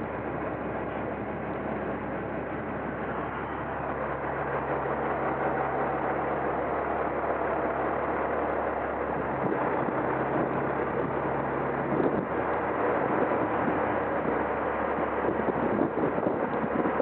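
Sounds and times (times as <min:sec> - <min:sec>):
road and wind noise: 0:00.0 - 0:17.0
truck engine droning: 0:00.0 - 0:17.0.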